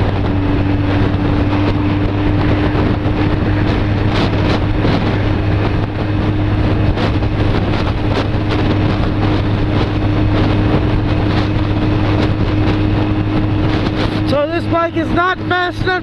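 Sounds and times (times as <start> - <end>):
motorcycle engine at high revs: 0.0 - 16.0
wind rushing over microphone: 0.0 - 16.0.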